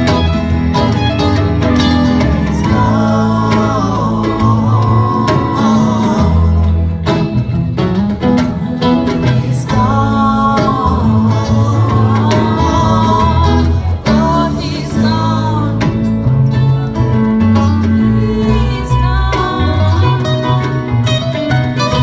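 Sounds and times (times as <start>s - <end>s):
electric lead guitar bending lines: 0.0s - 22.0s
live rock band playing: 0.0s - 22.0s.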